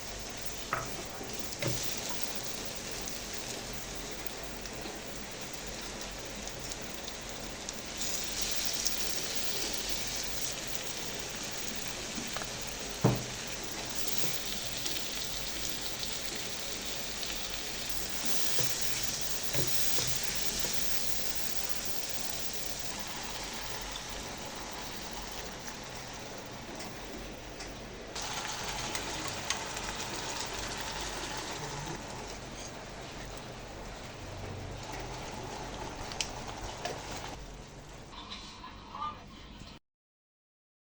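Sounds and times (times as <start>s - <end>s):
food sizzling in a pan: 0.0s - 37.6s.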